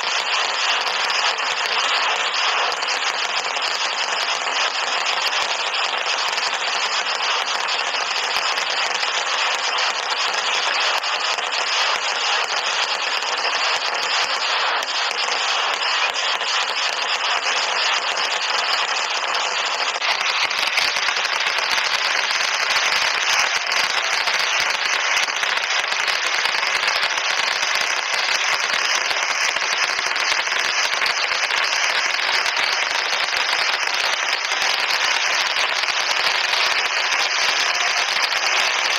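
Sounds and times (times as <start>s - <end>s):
firecracker blasts crackling: 0.0s - 38.9s.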